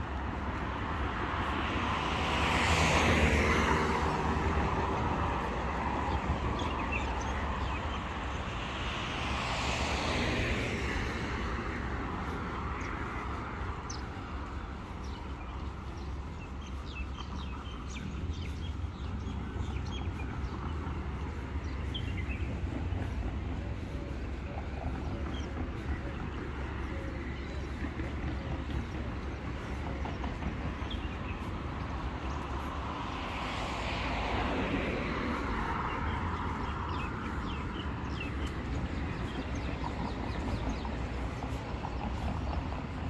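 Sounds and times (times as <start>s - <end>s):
cars passing: 0.0s - 43.0s
low rumble of traffic: 0.0s - 43.0s.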